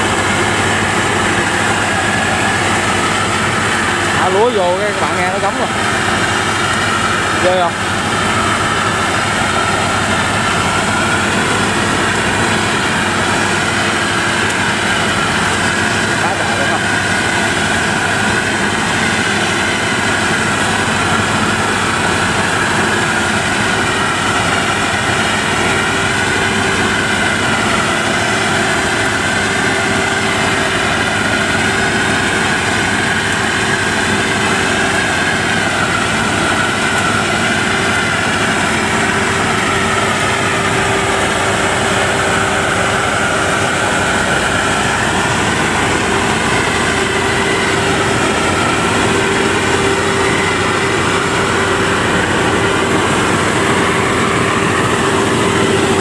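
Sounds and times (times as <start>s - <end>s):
combine harvester running: 0.0s - 56.0s
high wavering whine: 0.0s - 56.0s.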